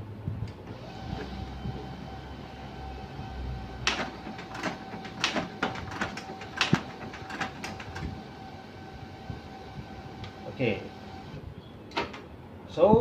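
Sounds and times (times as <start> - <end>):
printer clicks and clunks: 0.5 - 3.0, 3.6 - 12.3
printer motor hum: 0.5 - 11.4.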